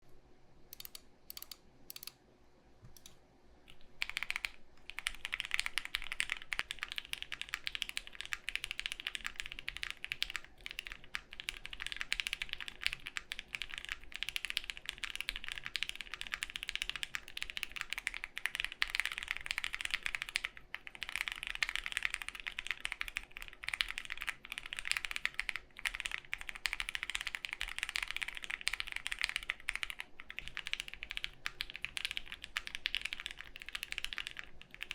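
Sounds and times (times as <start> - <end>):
faint fan hum: 0.0 - 34.9
mechanical keyboard typing: 0.7 - 2.2, 2.9 - 34.9.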